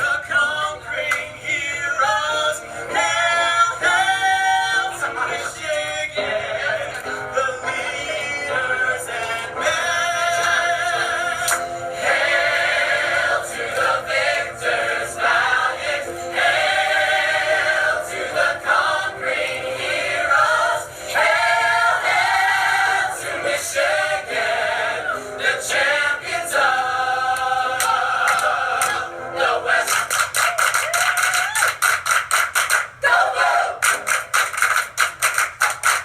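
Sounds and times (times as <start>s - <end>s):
voices singing in chorus: 0.0s - 30.6s, 33.0s - 33.9s.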